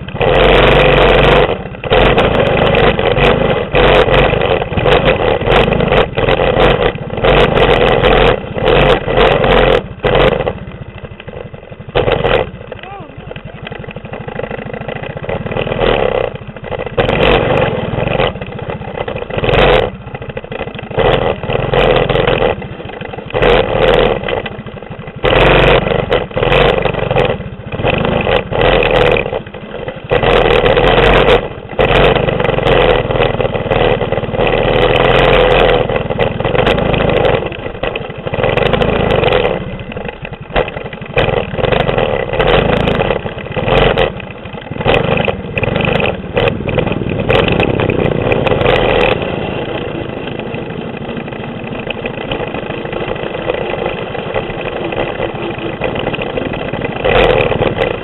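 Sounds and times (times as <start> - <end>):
mini bike engine revving: 0.0 - 58.0.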